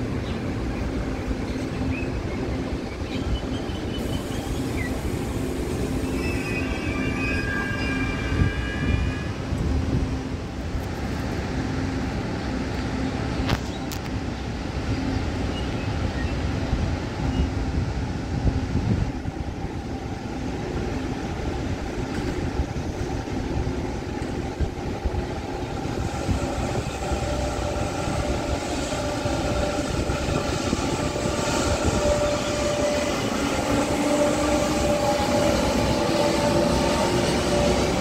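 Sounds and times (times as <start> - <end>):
train rumble and rail noise: 0.0 - 38.0
train whine rising in pitch: 0.0 - 38.0.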